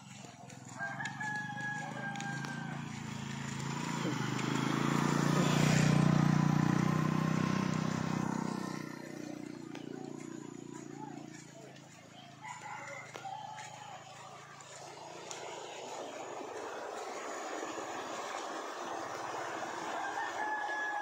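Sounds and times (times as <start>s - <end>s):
rooster crowing: 0.6s - 6.0s, 6.6s - 21.0s.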